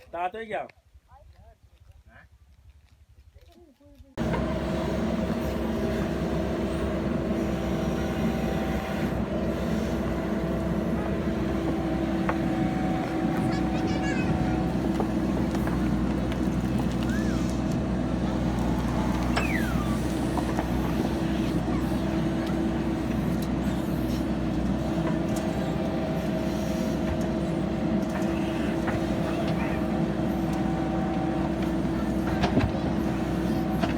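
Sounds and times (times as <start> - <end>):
backhoe diesel engine droning: 4.2 - 33.9.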